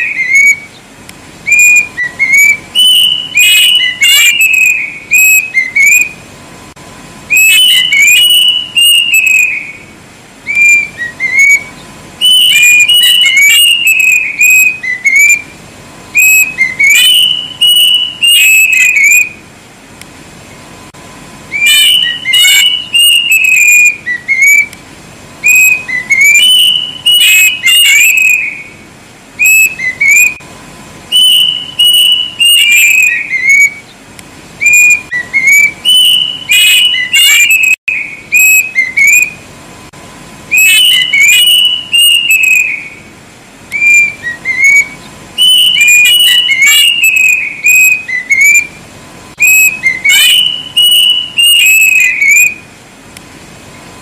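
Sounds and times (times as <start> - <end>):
cuckoo whistling song: 0.0 - 6.3, 7.2 - 19.4, 21.5 - 24.8, 25.4 - 30.4, 31.1 - 34.0, 34.6 - 39.5, 40.5 - 48.8, 49.4 - 52.7.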